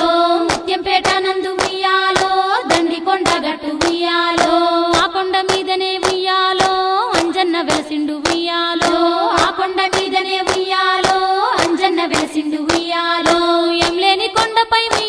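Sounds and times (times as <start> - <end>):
hand claps: 0.0 - 15.0
woman singing: 0.0 - 15.0.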